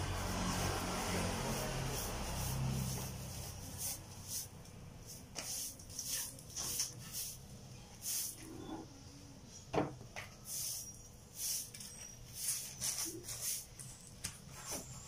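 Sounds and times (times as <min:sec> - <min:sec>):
broom sweeping concrete floor: 0:00.0 - 0:08.7, 0:10.2 - 0:15.0.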